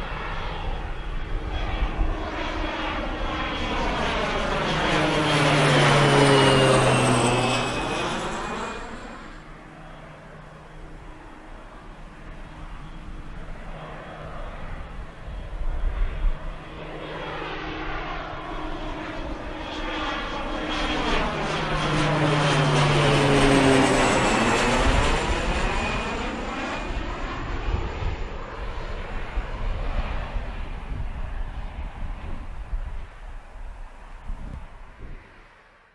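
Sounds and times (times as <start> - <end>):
propeller plane flying overhead: 0.0 - 35.9.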